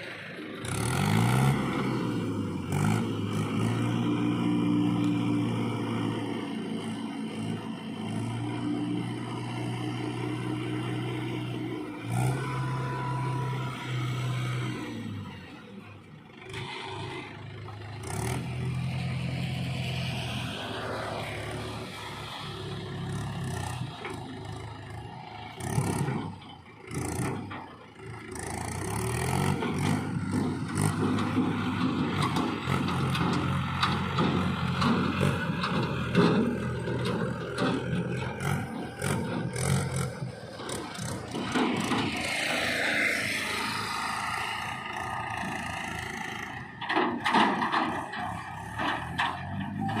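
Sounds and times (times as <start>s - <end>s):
diesel engine working under load: 0.0s - 50.0s.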